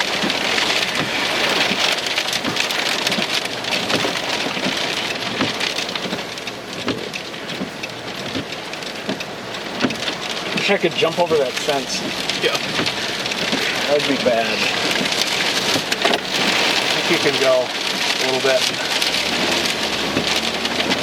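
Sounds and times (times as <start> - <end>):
heavy rain on car roof: 0.0 - 21.0.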